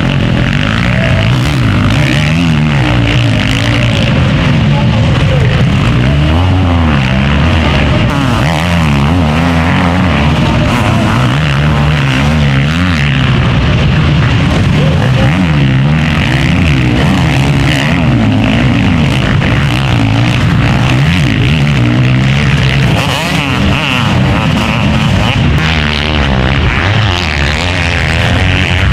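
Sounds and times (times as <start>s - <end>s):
motocross bikes revving: 0.0s - 28.9s.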